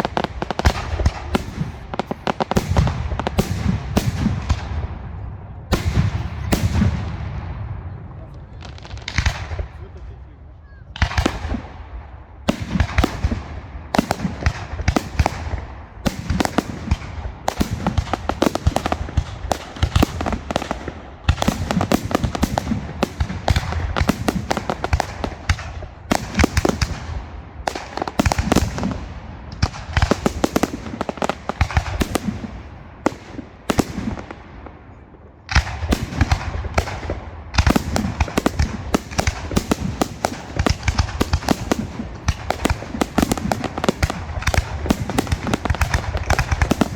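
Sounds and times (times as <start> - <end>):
fireworks bursting and crackling: 0.0 - 10.2, 10.9 - 46.9.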